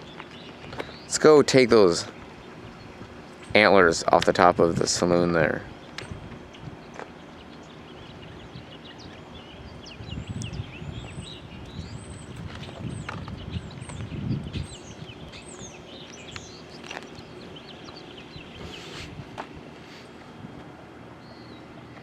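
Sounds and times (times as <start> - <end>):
small birds chirping: 0.0 - 4.5, 5.2 - 19.2, 21.0 - 22.0
low rumbling microphone noise: 0.0 - 21.5.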